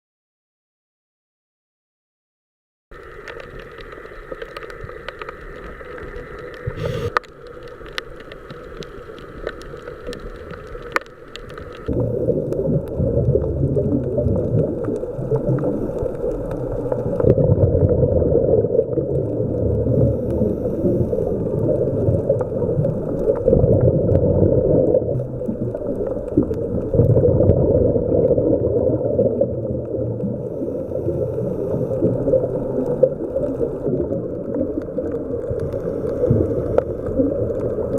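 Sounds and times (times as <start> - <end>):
underwater gurgling and rumble: 2.9 - 37.9
bubbles and churning water: 3.0 - 37.9.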